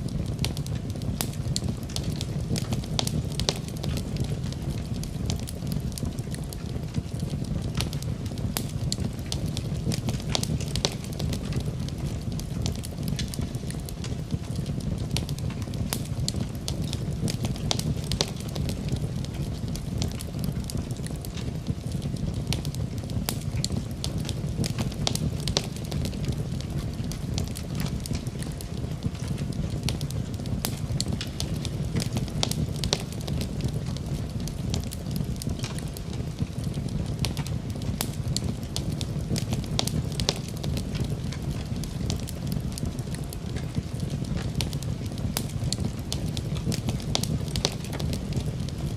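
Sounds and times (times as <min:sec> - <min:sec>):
fireplace fire crackling: 0:00.0 - 0:48.9.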